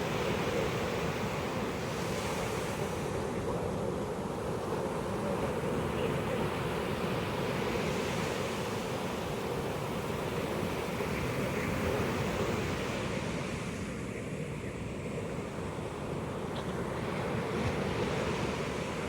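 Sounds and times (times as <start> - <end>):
waves breaking on a beach: 0.0 - 19.0.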